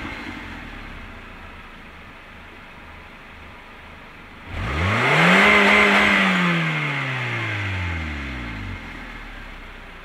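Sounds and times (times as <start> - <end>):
car engine idling and revving: 0.0 - 10.0.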